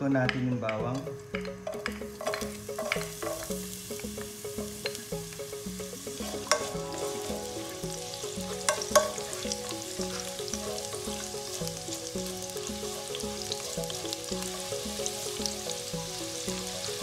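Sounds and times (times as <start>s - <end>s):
soft background music: 0.0s - 17.0s
spatula stirring in pot: 1.0s - 14.8s
garlic sizzling in hot oil: 1.0s - 17.0s.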